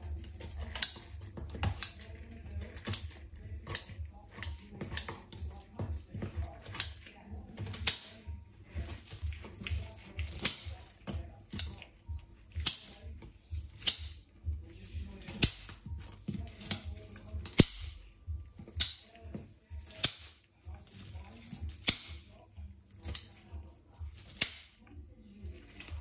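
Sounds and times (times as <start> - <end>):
background music with low beat: 0.0 - 26.0.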